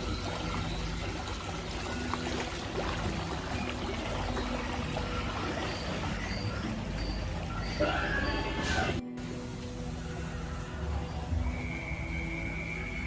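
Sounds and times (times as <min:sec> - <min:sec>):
water rushing in a channel: 0:00.0 - 0:13.0.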